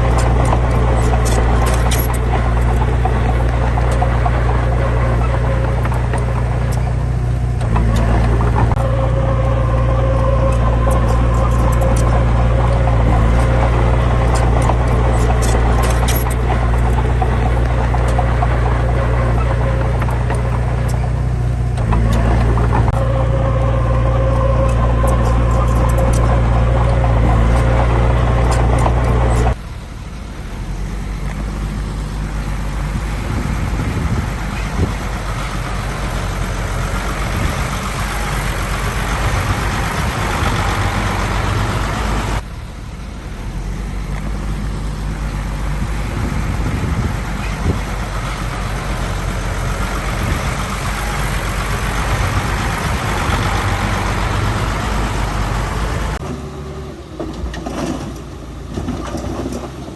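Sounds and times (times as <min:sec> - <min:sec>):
heavy diesel engines rumbling: 0:00.0 - 0:59.9.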